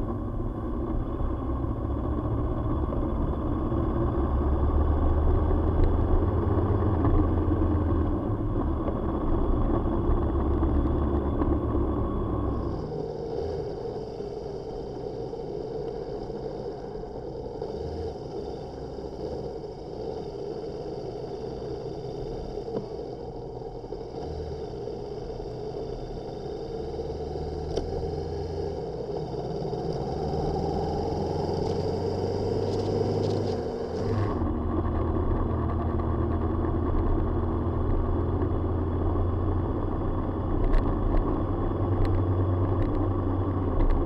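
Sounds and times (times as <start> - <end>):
motorcycle engine running: 0.0 - 44.0
wind and road noise: 0.0 - 44.0.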